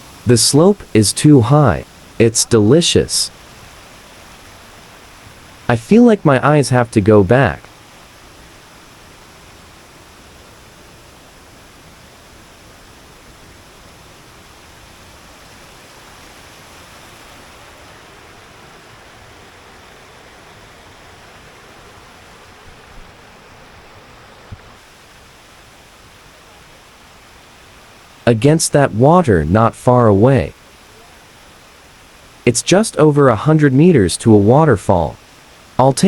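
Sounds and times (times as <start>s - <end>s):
waterfall rushing over rock: 0.0s - 28.2s, 30.1s - 34.5s, 35.1s - 36.0s.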